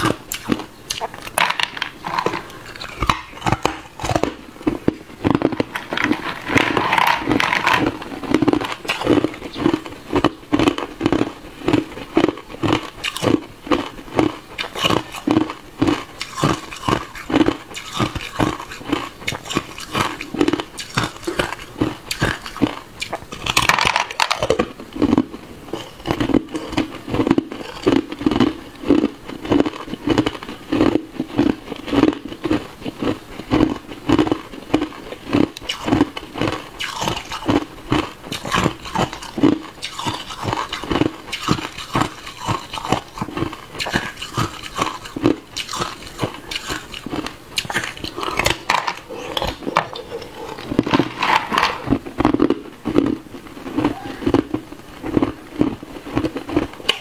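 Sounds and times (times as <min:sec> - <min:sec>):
person crunching ice cubes: 0:00.0 - 0:57.0.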